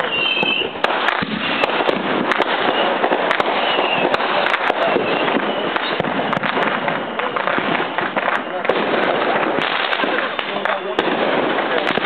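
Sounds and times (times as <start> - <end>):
fireworks bangs: 0.0 - 12.0
fireworks crackling and popping: 0.0 - 12.0.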